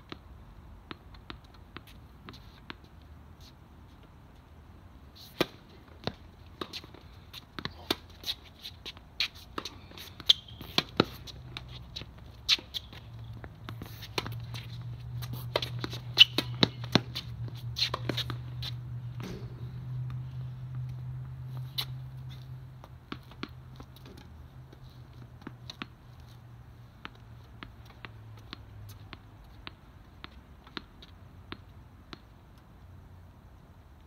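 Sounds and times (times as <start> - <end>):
tennis ball strikes and bounces: 0.8 - 2.8, 5.2 - 26.4, 27.0 - 32.4.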